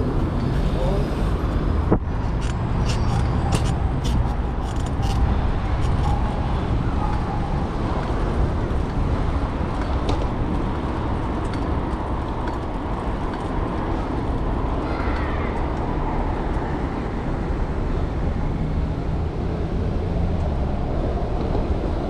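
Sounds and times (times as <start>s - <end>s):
city traffic noise: 0.0s - 22.0s
wind rushing over microphone: 0.0s - 22.0s.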